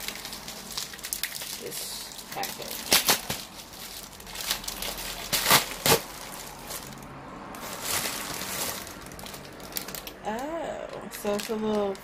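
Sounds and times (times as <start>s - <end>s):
plastic mailer tearing: 0.0s - 7.0s, 7.6s - 10.5s
plastic packaging crinkling: 0.0s - 12.0s.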